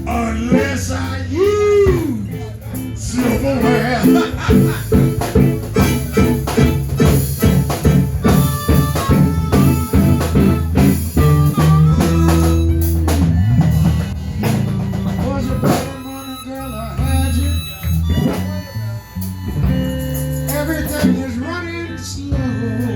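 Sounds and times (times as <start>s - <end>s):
drum kit beat: 0.0s - 21.4s
blues guitar: 0.0s - 22.9s.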